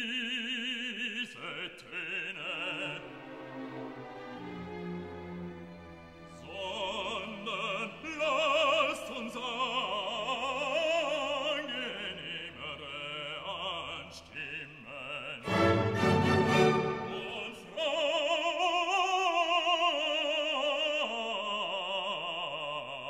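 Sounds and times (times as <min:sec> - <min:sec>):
operatic singing with orchestra: 0:00.0 - 0:23.0.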